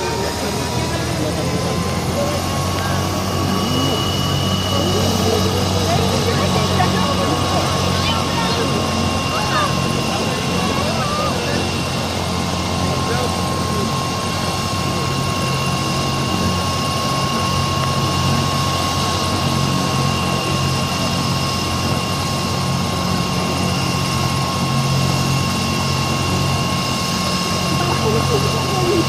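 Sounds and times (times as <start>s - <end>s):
helicopter rotor drone: 0.0s - 29.0s
helicopter turbine whine: 0.0s - 29.0s.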